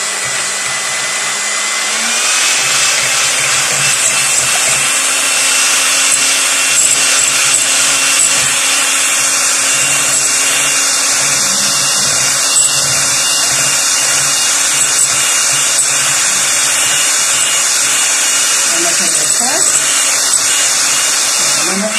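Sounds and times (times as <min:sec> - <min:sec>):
electric hand mixer whisking: 0:00.0 - 0:21.9.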